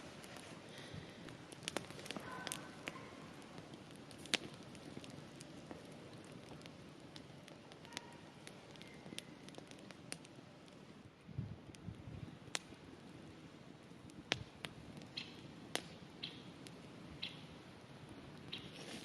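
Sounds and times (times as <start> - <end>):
campfire wood crackling and popping: 0.0 - 19.0.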